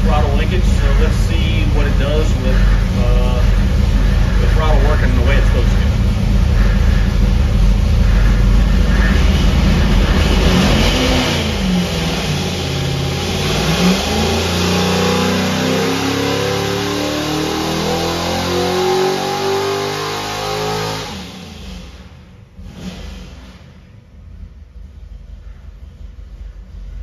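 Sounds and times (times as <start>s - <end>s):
engine revving on dyno: 0.0s - 24.5s.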